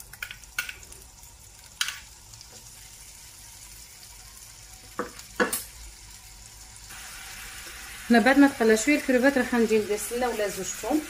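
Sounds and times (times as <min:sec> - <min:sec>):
shrimp sizzling in a frying pan: 0:00.0 - 0:11.0.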